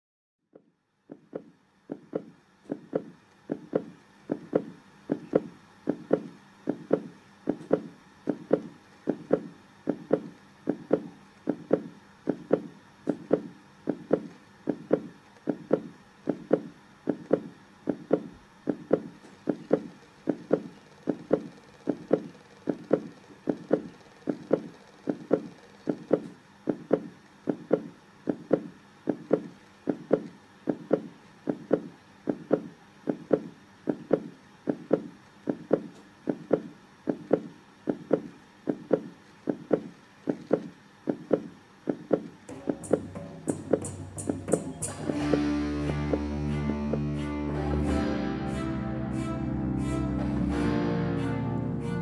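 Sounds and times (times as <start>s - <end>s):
heartbeat thumps: 1.1s - 47.2s.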